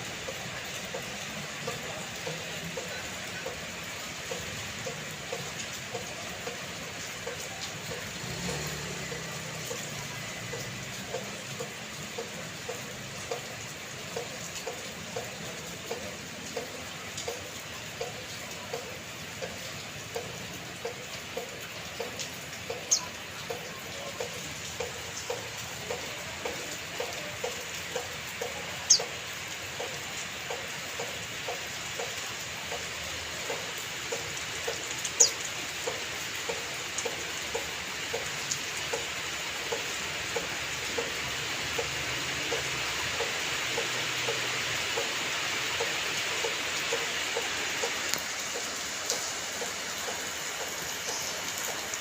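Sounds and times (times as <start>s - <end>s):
steady rain hissing: 0.0s - 52.0s
water dripping: 0.0s - 52.0s.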